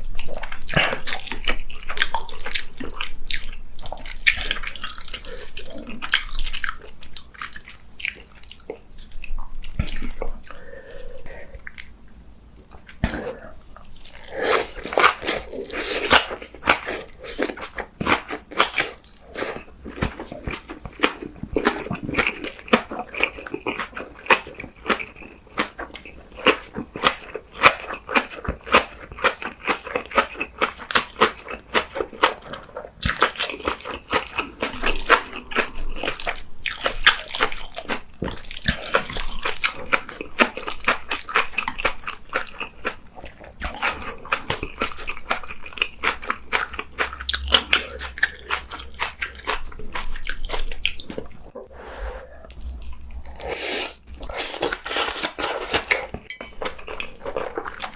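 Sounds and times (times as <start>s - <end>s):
close chewing and crunching: 0.0s - 12.0s, 12.6s - 57.9s.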